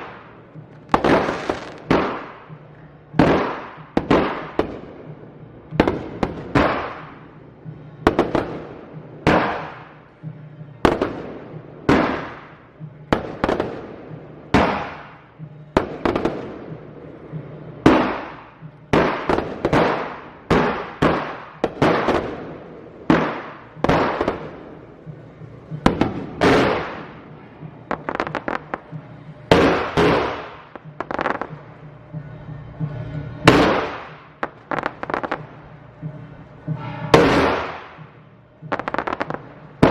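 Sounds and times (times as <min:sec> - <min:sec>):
fireworks bangs echoing: 0:00.0 - 0:32.2, 0:33.0 - 0:39.9.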